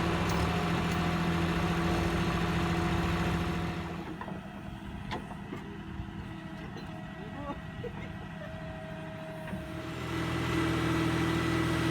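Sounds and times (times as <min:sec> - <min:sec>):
diesel tractor engine: 0:00.0 - 0:11.9.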